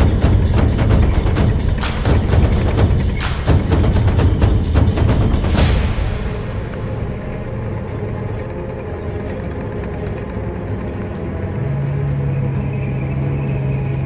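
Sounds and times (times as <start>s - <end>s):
armoured vehicle engines droning: 0.0s - 14.0s
deep engine hum: 0.0s - 14.0s.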